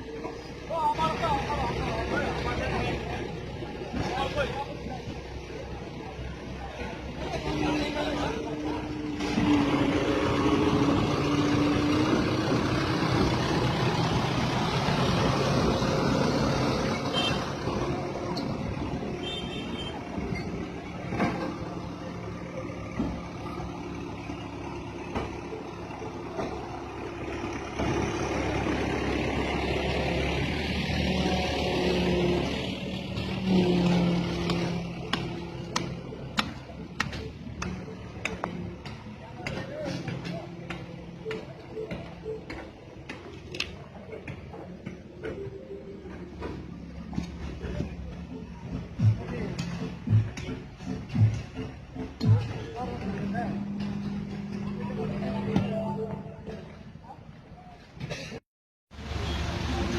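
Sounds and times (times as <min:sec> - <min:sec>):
heavy diesel crane engine: 0:00.0 - 0:58.4.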